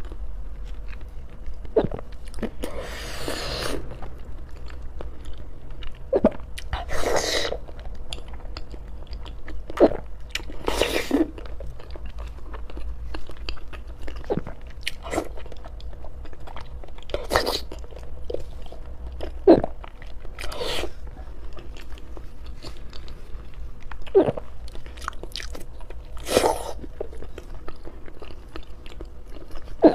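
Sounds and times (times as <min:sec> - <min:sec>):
person chewing food: 0:00.0 - 0:29.9.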